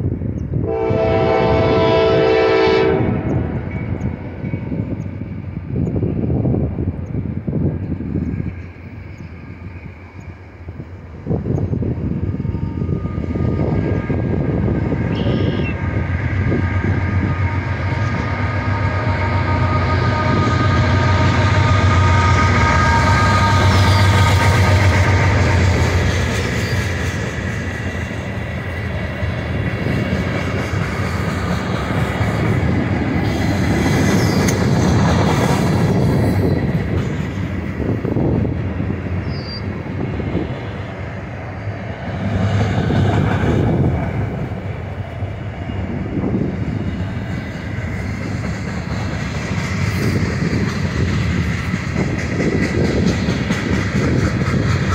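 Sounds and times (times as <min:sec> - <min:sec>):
diesel locomotive engine droning: 0:00.0 - 0:54.9
train wheels rumbling on rails: 0:00.0 - 0:54.9.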